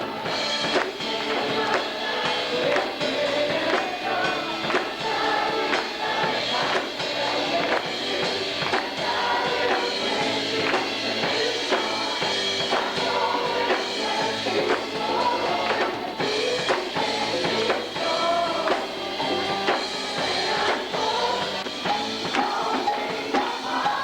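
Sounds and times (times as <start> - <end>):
drum kit beat: 0.0 - 24.0
people singing together: 0.0 - 24.0.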